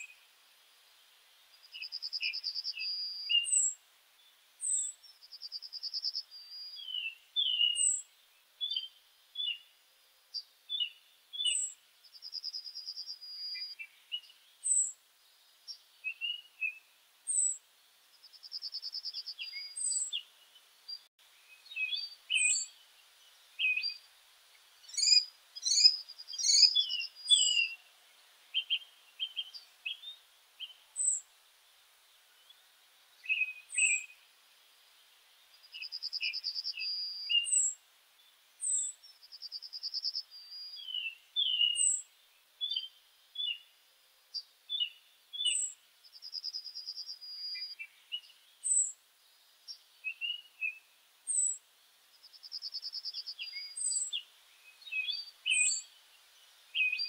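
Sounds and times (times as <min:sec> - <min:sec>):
songbirds singing and calling: 0:00.0 - 0:57.0.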